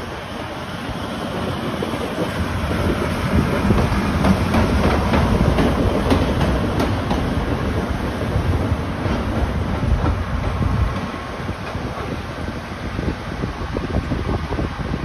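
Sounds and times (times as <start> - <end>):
steam locomotive rolling past: 0.0 - 15.0.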